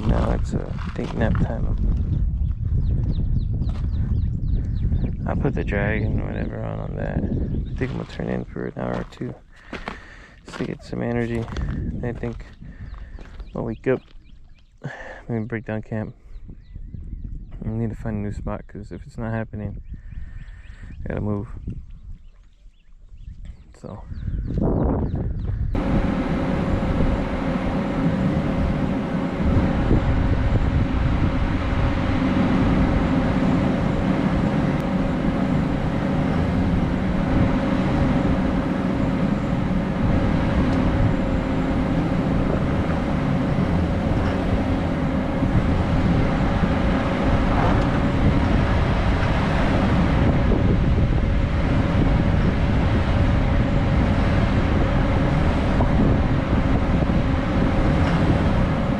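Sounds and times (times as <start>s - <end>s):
road rumble: 0.0s - 19.2s, 23.7s - 58.9s
vehicle engine drone: 0.0s - 21.4s, 23.8s - 58.9s.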